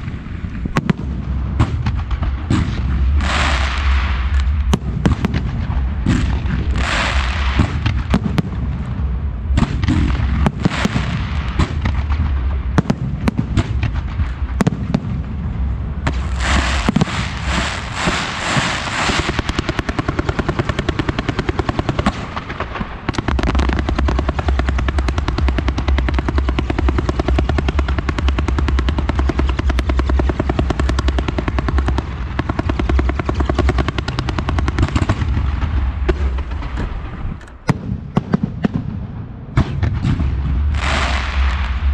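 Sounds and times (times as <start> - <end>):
fireworks crackling: 0.0 - 38.9, 39.6 - 41.9
fireworks launching and bursting: 0.0 - 41.9
rapid fireworks pops: 0.0 - 41.9.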